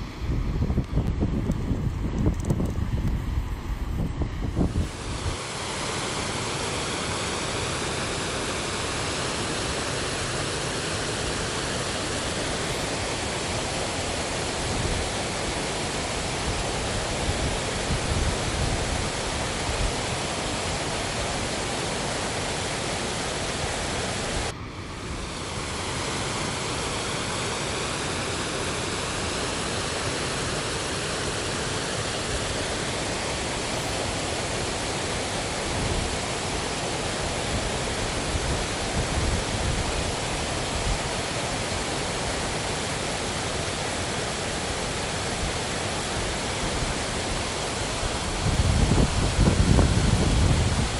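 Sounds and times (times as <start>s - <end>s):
creek water rushing over rocks: 4.5s - 50.9s.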